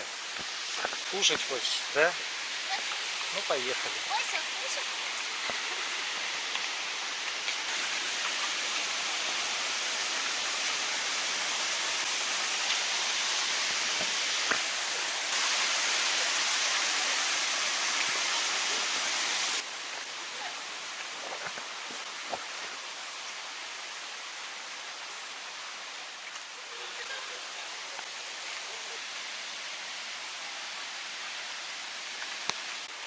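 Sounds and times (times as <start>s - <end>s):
stream and waterfall rushing: 0.0s - 33.0s.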